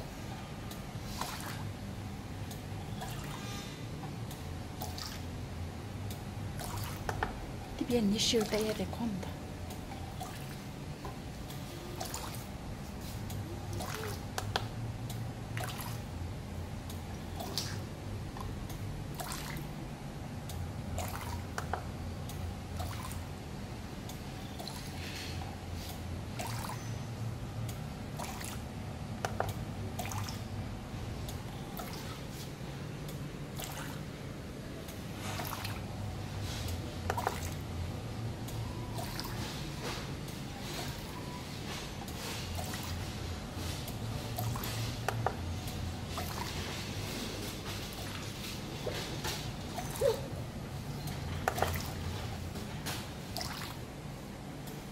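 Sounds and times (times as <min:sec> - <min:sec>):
pump humming: 0:00.0 - 0:54.9.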